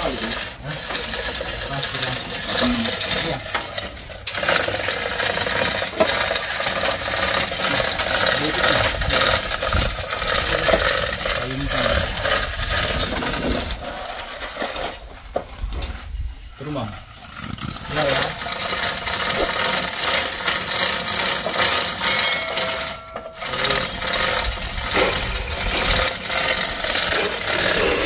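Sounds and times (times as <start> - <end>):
steel chain clinking and rattling: 0.0 - 16.2, 17.0 - 28.0.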